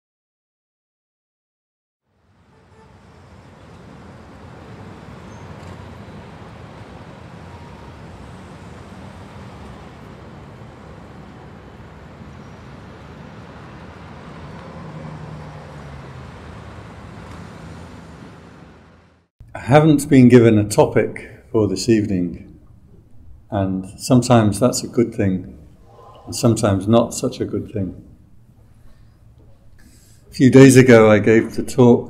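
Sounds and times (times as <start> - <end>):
city traffic hum: 2.0 - 32.0.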